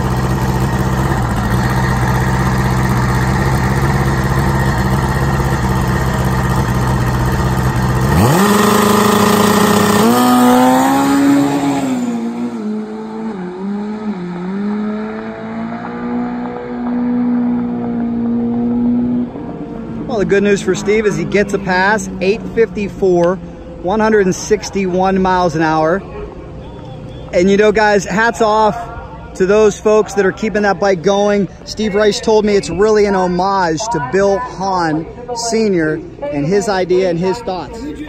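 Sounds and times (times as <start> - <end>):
racing motorcycle engine: 0.0 - 38.0.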